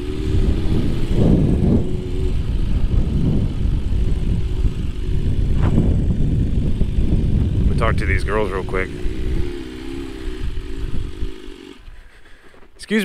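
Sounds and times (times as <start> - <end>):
low wind rumble on microphone: 0.0 - 12.0
motorcycle engine running: 0.0 - 13.0.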